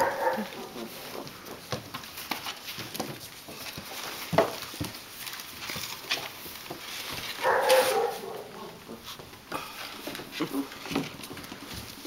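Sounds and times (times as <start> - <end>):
puppy claws scratching wood: 0.0 - 12.0.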